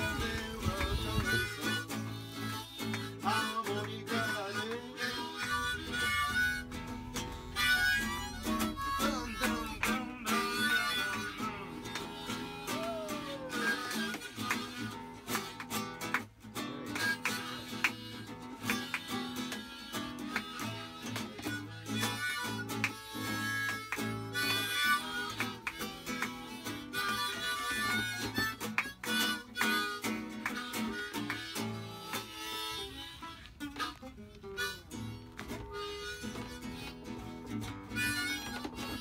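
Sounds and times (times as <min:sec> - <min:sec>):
acoustic guitar: 0:00.0 - 0:39.0
harmonica: 0:00.0 - 0:39.0.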